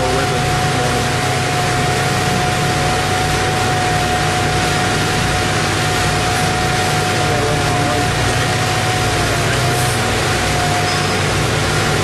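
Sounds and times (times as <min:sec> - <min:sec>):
paving machinery engines droning: 0:00.0 - 0:12.0
thin steady whine: 0:00.0 - 0:12.0.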